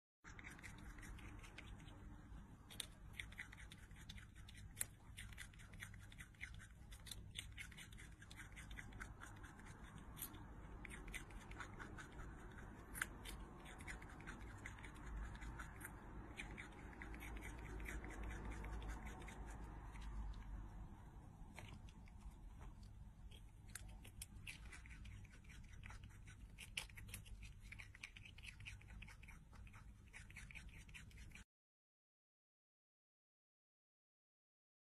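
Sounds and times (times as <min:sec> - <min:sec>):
squirrel gnawing a carrot: 0:00.2 - 0:31.4.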